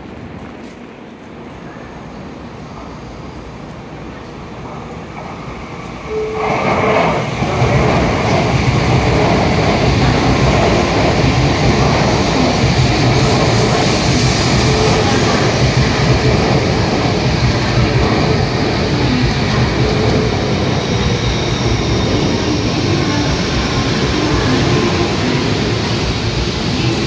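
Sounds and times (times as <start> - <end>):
train rushing past: 0.0 - 27.0.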